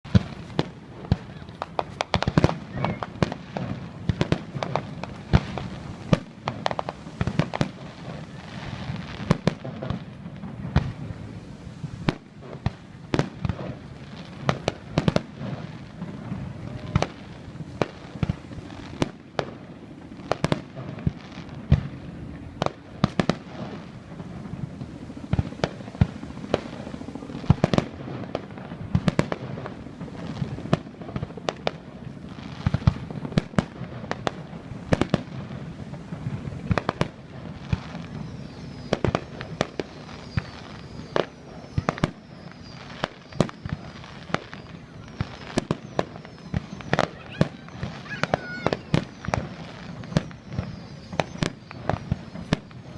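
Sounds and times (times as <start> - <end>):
fireworks bangs and pops: 0.0 - 52.9.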